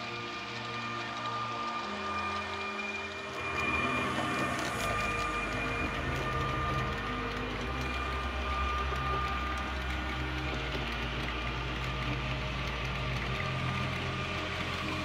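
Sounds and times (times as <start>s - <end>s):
low hum: 0.0s - 15.0s
model train wheels whirring: 0.0s - 15.0s.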